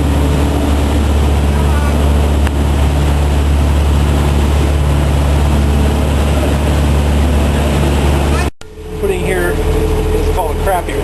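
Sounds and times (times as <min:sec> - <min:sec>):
boat engine droning: 0:00.0 - 0:11.0
broad rushing noise: 0:00.0 - 0:11.0.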